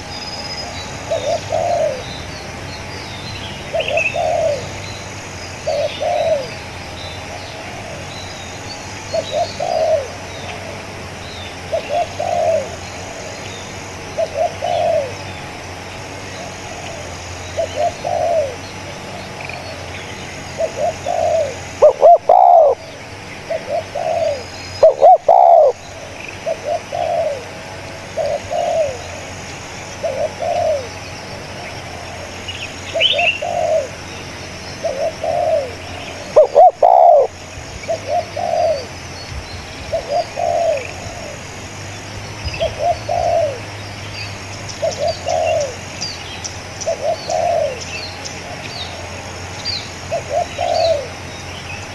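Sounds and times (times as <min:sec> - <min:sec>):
small birds chirping faintly: 0:00.0 - 0:51.9
dove cooing: 0:00.9 - 0:41.8, 0:42.4 - 0:43.8, 0:44.5 - 0:51.4.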